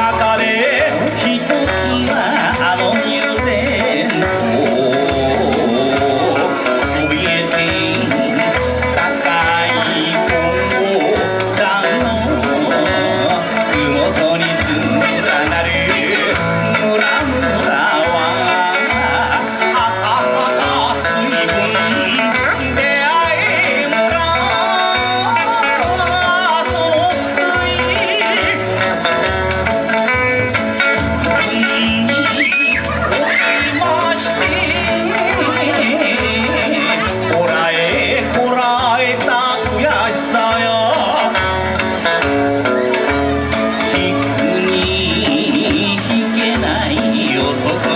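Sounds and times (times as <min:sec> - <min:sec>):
person singing: 0:00.0 - 0:47.9
plucked electric guitar: 0:00.0 - 0:47.9.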